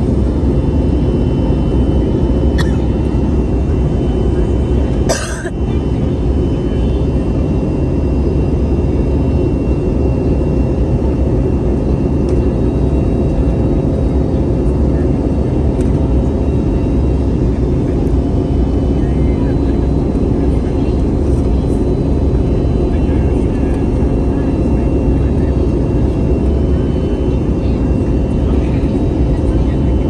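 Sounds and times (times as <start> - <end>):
jet engines in airliner cabin: 0.0 - 30.0.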